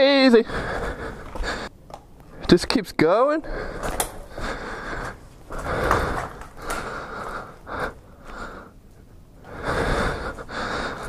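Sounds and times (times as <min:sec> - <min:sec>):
person breathing heavily in helmet: 0:00.4 - 0:01.8, 0:03.4 - 0:11.0.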